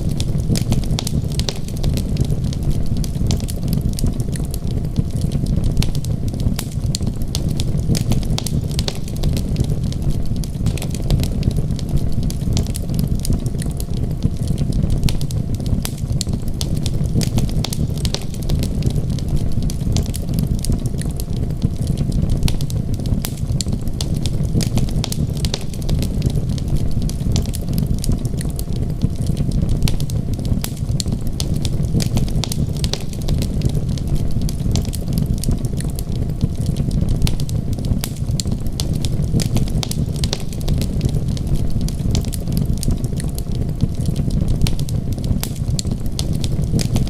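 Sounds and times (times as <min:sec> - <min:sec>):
low fire rumble: 0:00.0 - 0:47.0
wood fire crackling and popping: 0:00.0 - 0:47.0.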